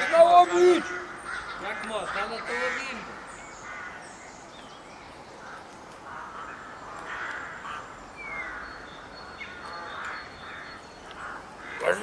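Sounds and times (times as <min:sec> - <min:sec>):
crows cawing: 0:00.0 - 0:04.3, 0:05.4 - 0:12.0.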